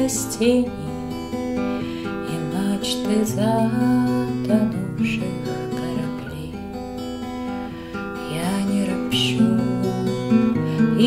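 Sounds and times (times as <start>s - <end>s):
woman singing: 0.0s - 6.8s, 8.2s - 11.0s
acoustic guitar strumming: 0.0s - 11.0s.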